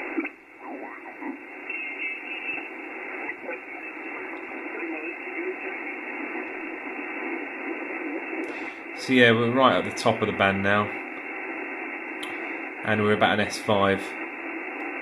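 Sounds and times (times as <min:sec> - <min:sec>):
faint whistling radio tones: 0:00.0 - 0:15.0
radio band noise hiss: 0:00.0 - 0:15.0.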